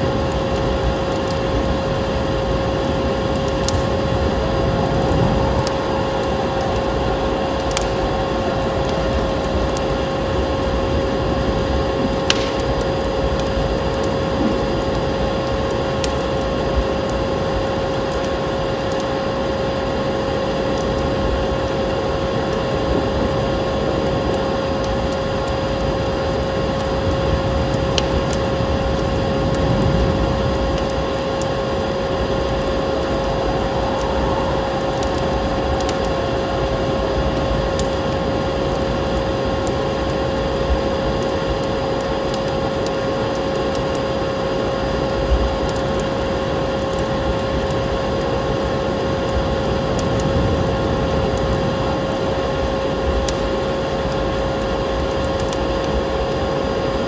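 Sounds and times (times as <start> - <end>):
steady rushing noise: 0.0 - 17.8, 22.2 - 53.4
constant hum: 0.0 - 57.0
wood fire crackling: 0.0 - 57.0.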